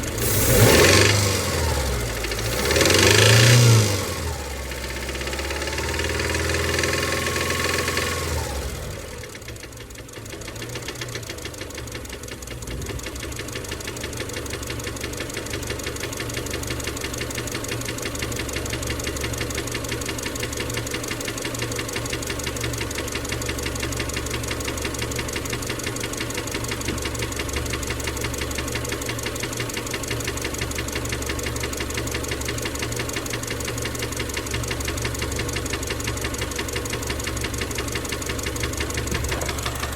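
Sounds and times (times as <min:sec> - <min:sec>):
car engine revving and idling: 0:00.0 - 0:39.9
rapid even engine knock: 0:04.7 - 0:08.4, 0:09.4 - 0:39.9.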